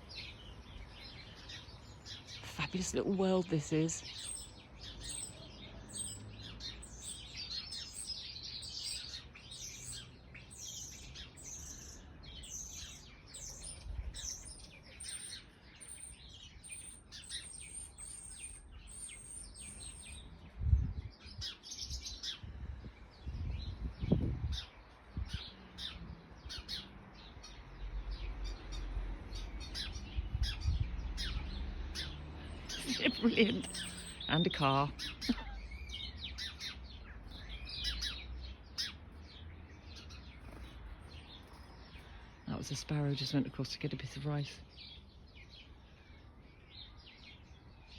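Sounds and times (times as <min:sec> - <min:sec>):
birds chirping and singing: 0:00.0 - 0:47.9.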